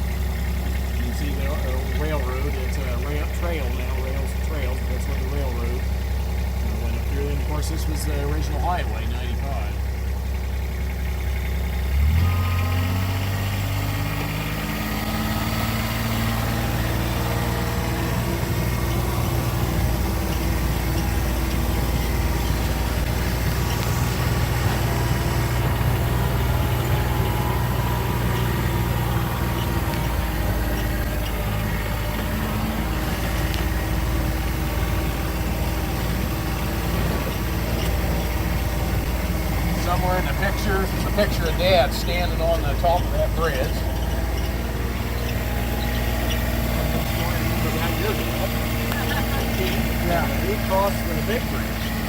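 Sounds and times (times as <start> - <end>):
road rumble: 0.0 - 52.0
vehicle engine running: 0.0 - 52.0.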